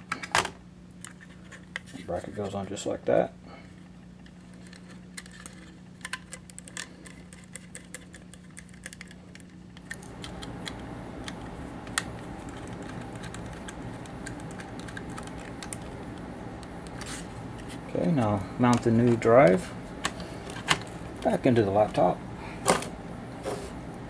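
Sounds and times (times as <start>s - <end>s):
low hum: 3.3s - 24.0s.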